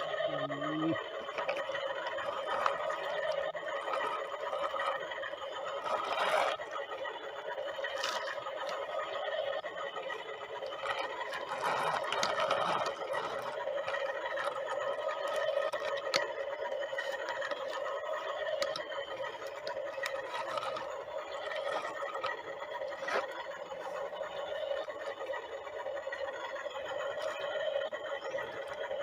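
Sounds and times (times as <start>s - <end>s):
small electric motor whining: 0.0s - 29.0s.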